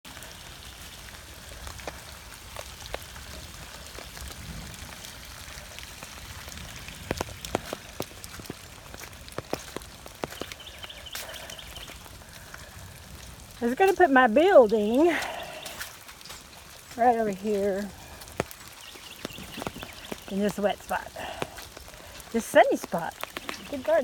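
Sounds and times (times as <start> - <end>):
rain pattering: 0.0 - 24.0
raindrops hitting close by: 0.0 - 24.0.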